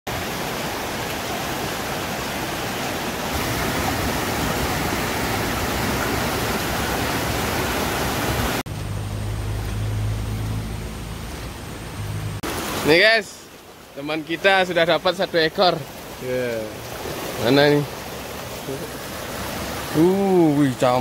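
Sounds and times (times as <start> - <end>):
stream rushing over rocks: 0.1 - 8.7, 11.2 - 21.0.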